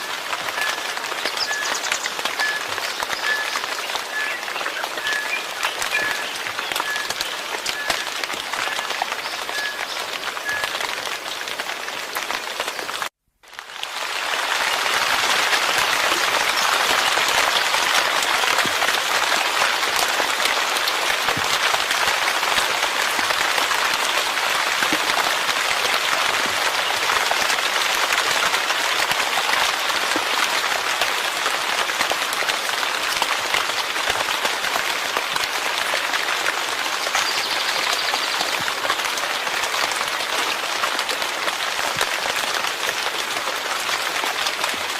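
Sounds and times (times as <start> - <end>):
rain patter: 0.0 - 44.9.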